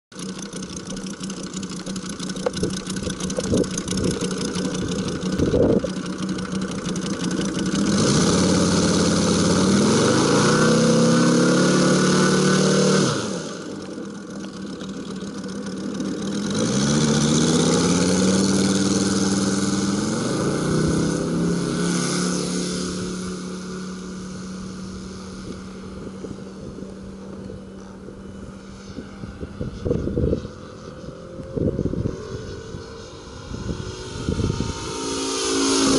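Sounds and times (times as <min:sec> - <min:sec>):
model plane radial engine: 0:00.1 - 0:35.9.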